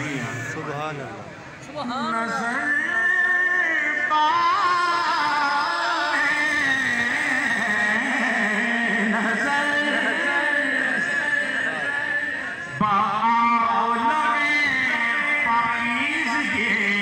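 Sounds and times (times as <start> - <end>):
man singing into a microphone: 1.9 - 17.0.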